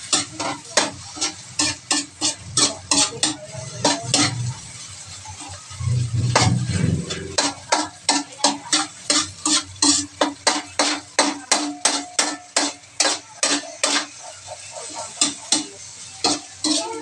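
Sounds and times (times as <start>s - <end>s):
spatula scraping metal wok: 0.0s - 17.0s.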